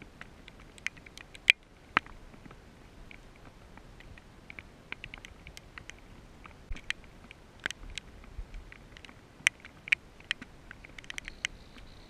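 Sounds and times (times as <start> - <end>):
raindrops tapping on camera: 0.0 - 11.9
faint hiss of rain: 0.0 - 12.0.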